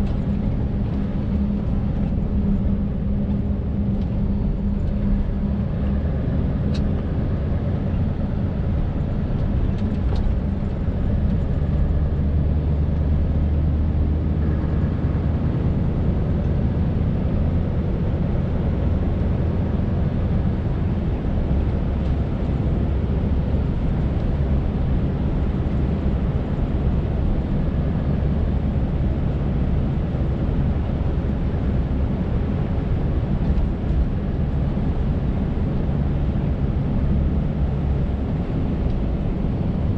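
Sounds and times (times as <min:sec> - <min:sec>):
diesel truck engine running: 0:00.0 - 0:39.9
road noise: 0:00.0 - 0:39.9.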